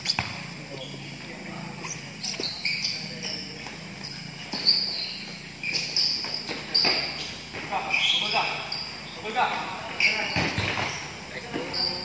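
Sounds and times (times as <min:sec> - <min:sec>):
shoes squeaking on court: 0:00.0 - 0:12.0.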